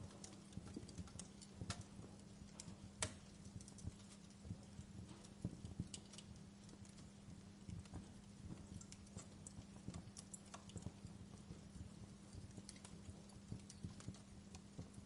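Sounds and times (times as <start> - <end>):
faint low hum: 0.0 - 15.0
wood fire popping and snapping: 0.0 - 15.0.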